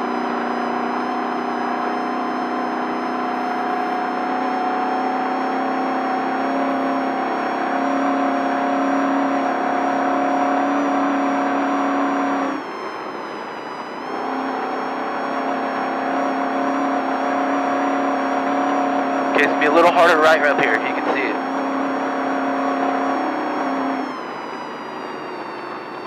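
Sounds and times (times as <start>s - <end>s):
engine at high revs: 0.0s - 26.0s.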